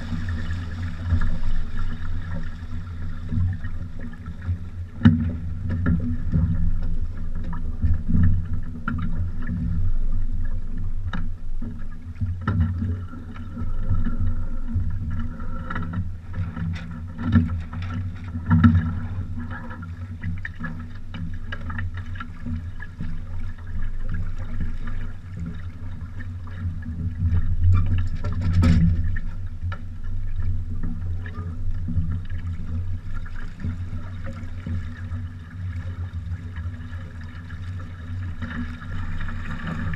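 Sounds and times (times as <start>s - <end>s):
knocks and clunks from boat: 0.0s - 39.9s
water slapping against hulls: 0.0s - 39.9s.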